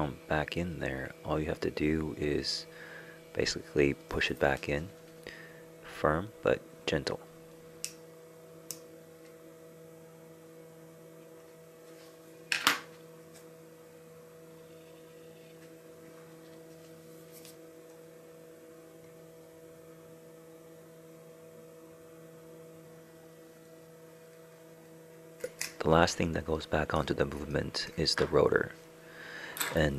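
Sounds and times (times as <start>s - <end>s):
steady electrical hum: 0.0s - 29.9s.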